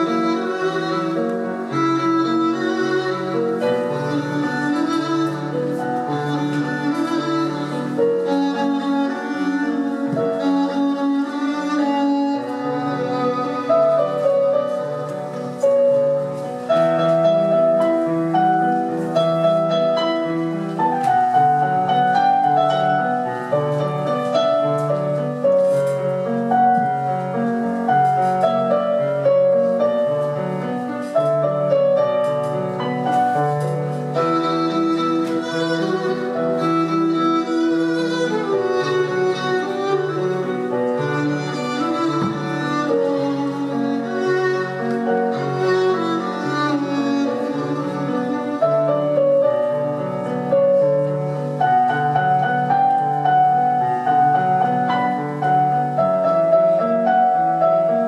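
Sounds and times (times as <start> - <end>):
bowed strings: 0.0 - 58.0
piano playing: 0.0 - 58.0.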